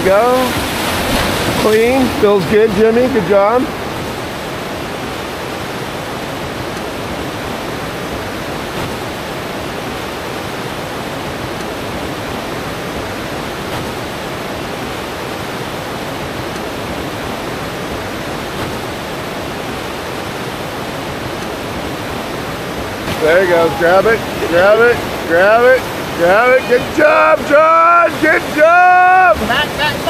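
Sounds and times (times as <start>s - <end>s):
whitewater rushing around boulders: 0.0s - 30.0s.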